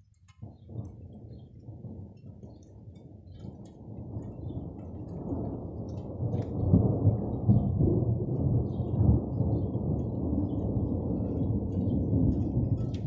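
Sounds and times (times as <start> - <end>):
rain ticks: 0.0 - 13.0
thunder rumbling: 0.3 - 13.0.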